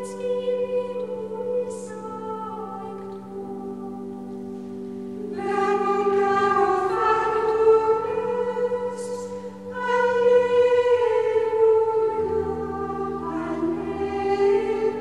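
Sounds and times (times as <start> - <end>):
slow music with sung voices: 0.0 - 15.0.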